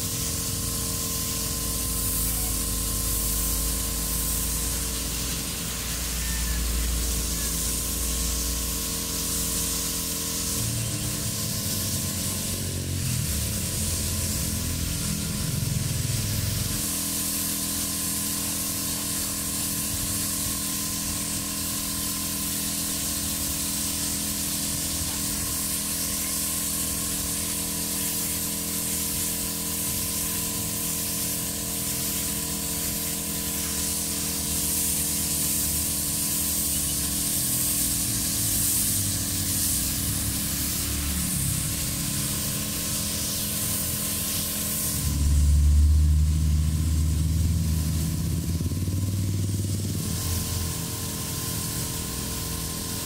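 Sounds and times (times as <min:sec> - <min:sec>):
spray paint hissing: 0:00.0 - 0:53.0.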